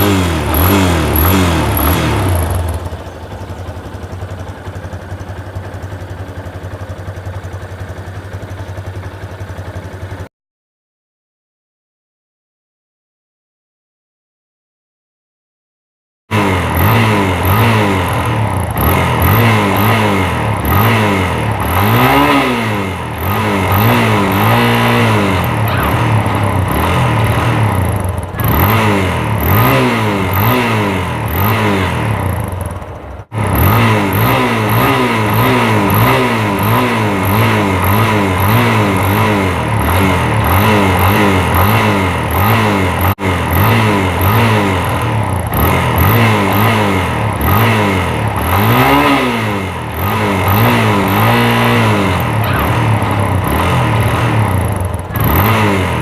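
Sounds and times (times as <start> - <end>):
motorcycle engine revving: 0.0 - 10.3, 16.3 - 56.0.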